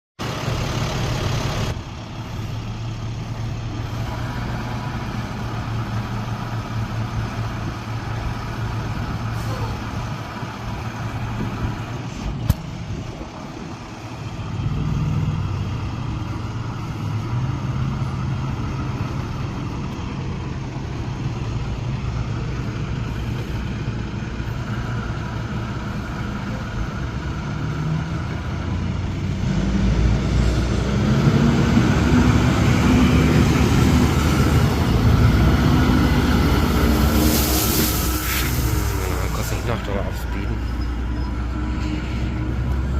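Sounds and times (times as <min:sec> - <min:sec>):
truck diesel engine running: 0:00.2 - 0:42.9.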